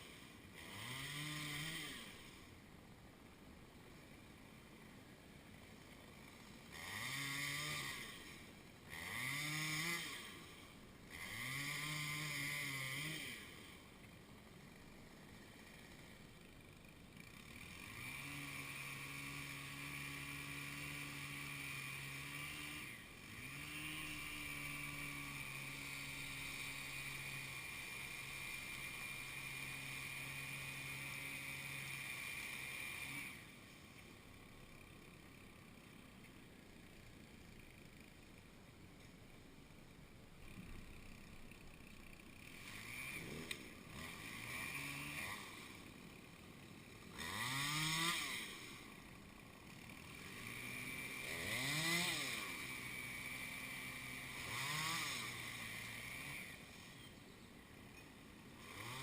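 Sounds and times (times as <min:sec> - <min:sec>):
two-stroke chainsaw revving: 0:00.0 - 0:02.6, 0:05.5 - 0:38.5, 0:40.4 - 0:59.0.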